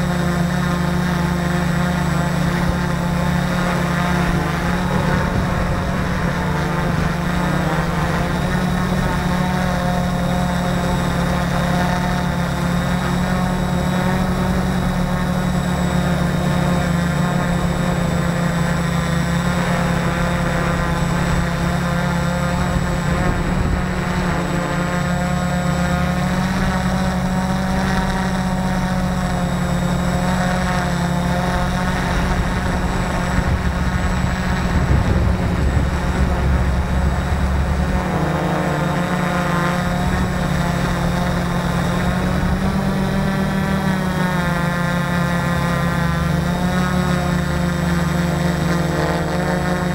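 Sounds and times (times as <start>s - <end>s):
drone propellers whirring: 0.0s - 49.9s.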